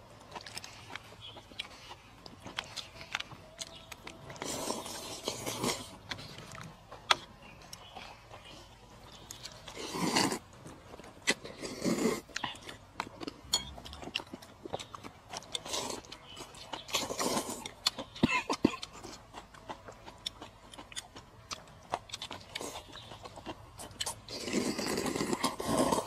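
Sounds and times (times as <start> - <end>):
person chewing and biting: 0.0 - 26.0.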